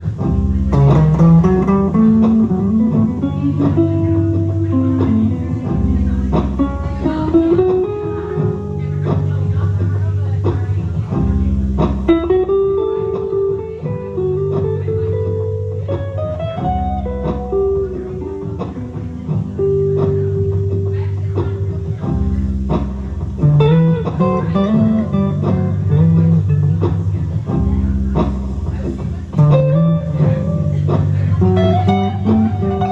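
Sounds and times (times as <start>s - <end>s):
low bass notes: 0.0s - 32.9s
plucked guitar notes: 0.0s - 32.9s.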